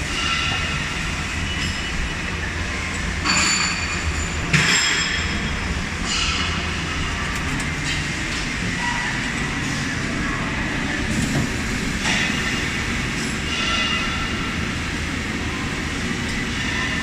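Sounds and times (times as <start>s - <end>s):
lathe mechanical hum: 0.0s - 17.0s.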